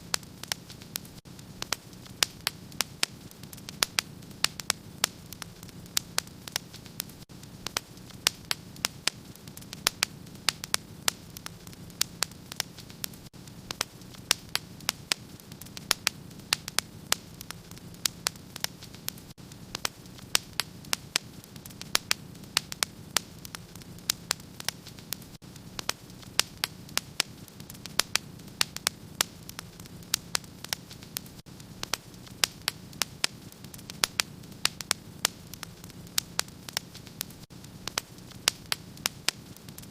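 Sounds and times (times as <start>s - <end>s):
low hiss of burning: 0.0s - 39.9s
wood fire crackling: 0.0s - 39.9s.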